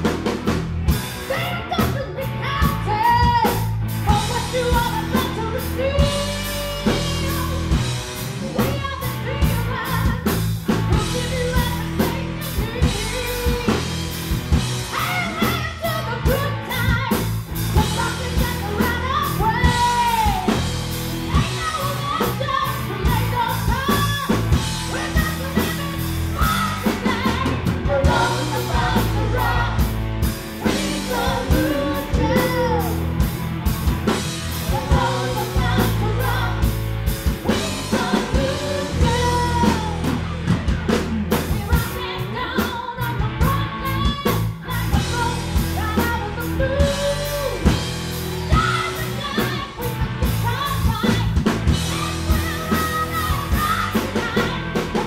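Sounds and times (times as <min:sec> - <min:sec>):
bass guitar: 0:00.0 - 0:55.0
drum kit: 0:00.0 - 0:55.0
electric guitars: 0:00.0 - 0:55.0
woman singing lead: 0:01.1 - 0:55.0.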